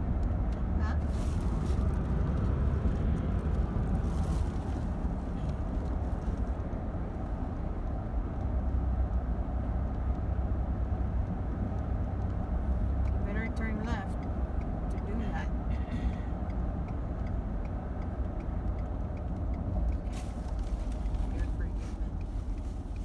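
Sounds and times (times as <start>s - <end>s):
car cabin road rumble: 0.0s - 23.0s.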